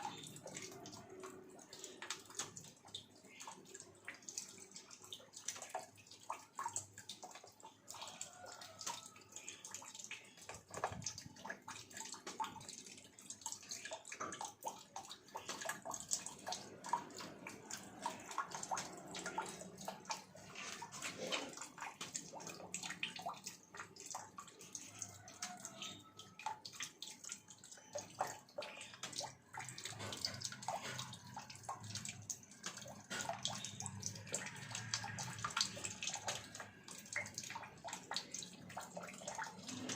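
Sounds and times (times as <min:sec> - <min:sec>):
cat drinking water: 0:00.0 - 0:39.9
faucet water splashing: 0:00.0 - 0:39.9.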